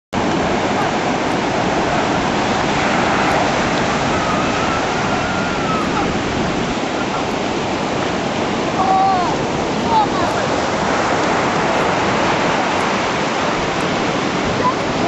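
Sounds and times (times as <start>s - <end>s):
heavy waves breaking: 0.2s - 15.0s.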